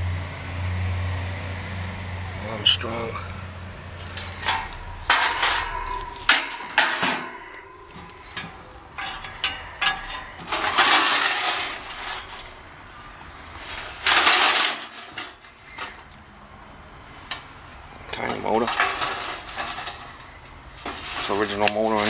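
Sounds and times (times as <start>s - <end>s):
metal scraping: 0.0s - 22.0s
sheet metal clinking: 1.4s - 22.0s.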